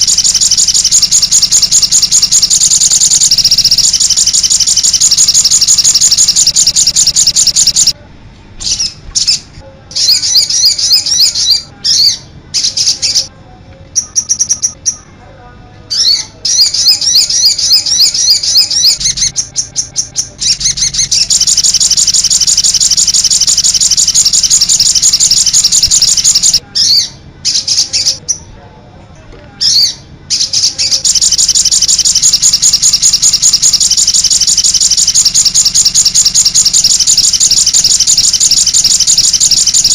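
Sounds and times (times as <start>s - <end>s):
songbird trills and chattering: 0.0s - 8.0s, 10.0s - 13.3s, 14.0s - 15.1s, 15.9s - 28.5s, 29.6s - 39.9s.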